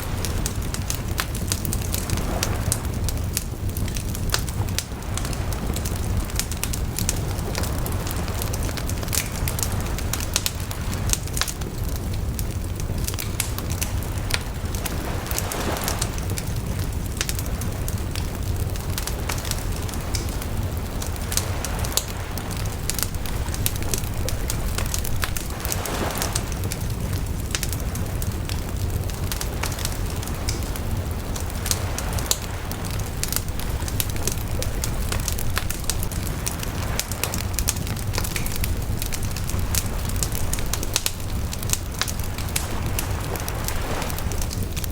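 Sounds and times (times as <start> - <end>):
bonfire crackling and popping: 0.0 - 44.9.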